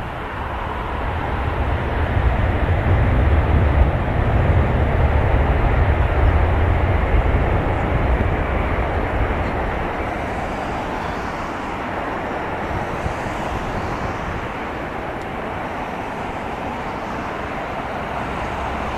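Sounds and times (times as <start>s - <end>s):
jet engine noise: 0.0s - 18.9s.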